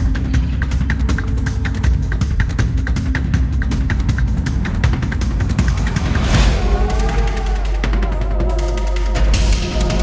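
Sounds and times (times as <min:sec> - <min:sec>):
drums: 0:00.0 - 0:10.0.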